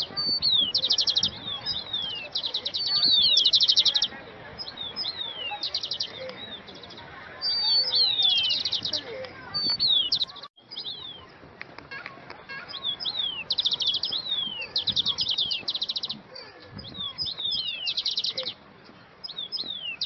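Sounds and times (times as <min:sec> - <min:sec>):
songbirds trilling: 0:00.0 - 0:20.0.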